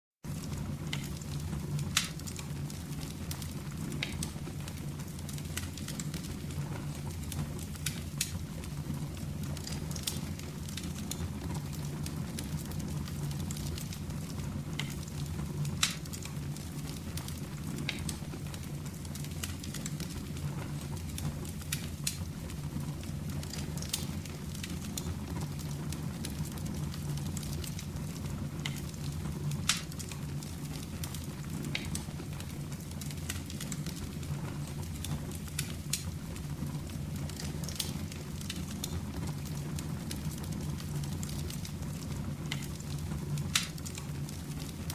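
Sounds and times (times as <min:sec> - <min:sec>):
fire burning with low rush: 0:00.2 - 0:44.9
fire crackling and popping: 0:00.2 - 0:44.9.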